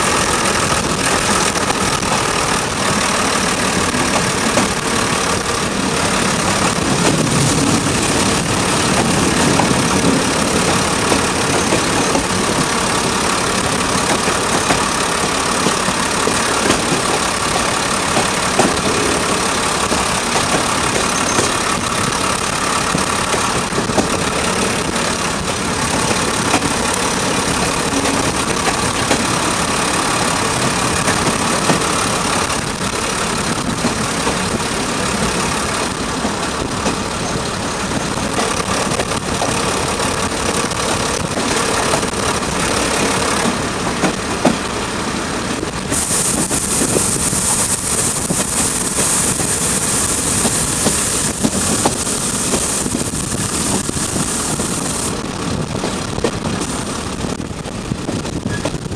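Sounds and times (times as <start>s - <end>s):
wind rush: 0.0s - 12.9s, 15.8s - 58.9s
diesel train engine: 0.0s - 58.9s
wheel on rail noise: 0.0s - 58.9s.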